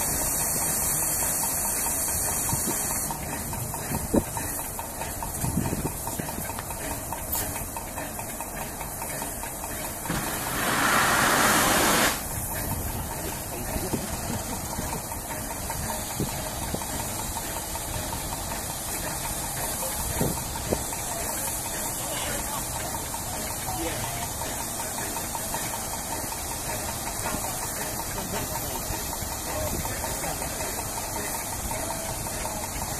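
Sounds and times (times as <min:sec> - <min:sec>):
loud steam hiss: 0:00.0 - 0:32.9
low engine rumble: 0:00.0 - 0:32.9.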